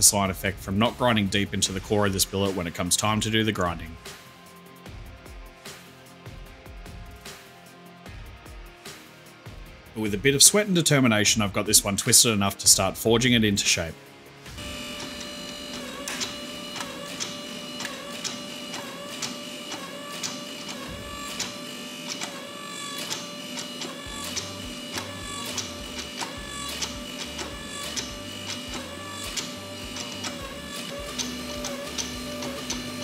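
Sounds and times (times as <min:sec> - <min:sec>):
background music with clicking beat: 0:00.0 - 0:33.0.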